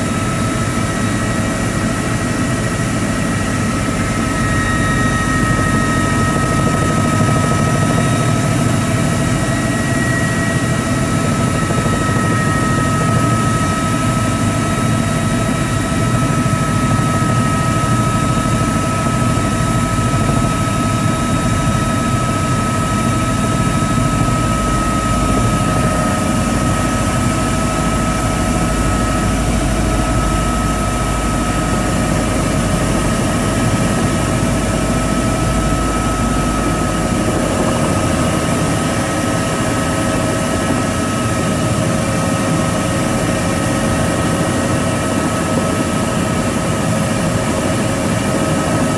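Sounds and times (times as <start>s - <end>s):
helicopter engine and rotors: 0.0s - 48.9s.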